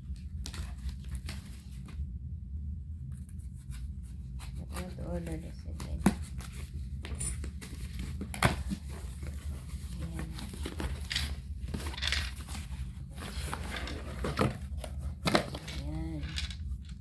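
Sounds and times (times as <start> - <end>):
packaging rustling and crinkling: 0.1 - 2.0, 3.7 - 17.0.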